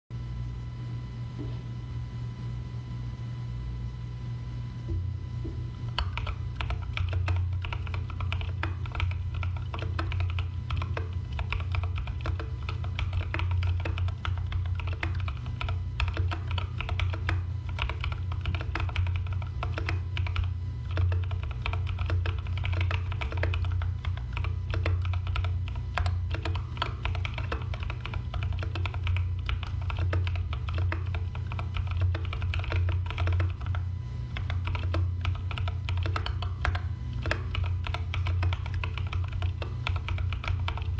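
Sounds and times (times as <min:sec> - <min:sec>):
steady low hum: 0:00.1 - 0:40.9
typing on keyboard: 0:05.9 - 0:40.9.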